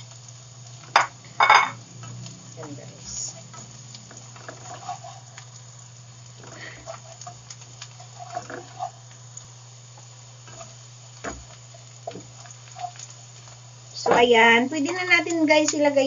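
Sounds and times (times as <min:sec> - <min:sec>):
onion sizzling in a frying pan: 0:00.0 - 0:16.0
steady low hum: 0:00.0 - 0:16.0.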